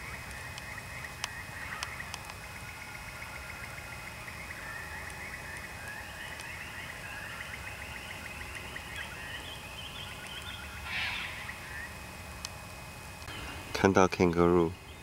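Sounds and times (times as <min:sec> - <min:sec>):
rapid pulsed animal trill: 0:00.0 - 0:12.1.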